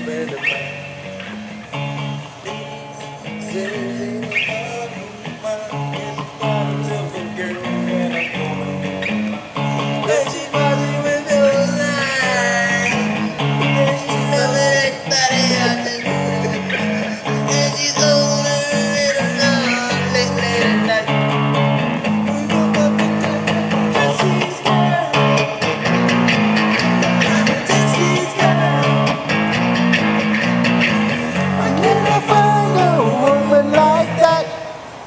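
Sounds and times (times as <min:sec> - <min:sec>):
electric guitar strumming: 0:00.0 - 0:35.0.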